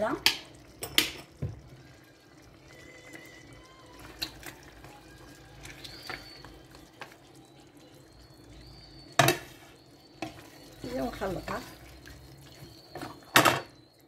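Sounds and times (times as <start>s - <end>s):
pot simmering: 0.0s - 14.0s.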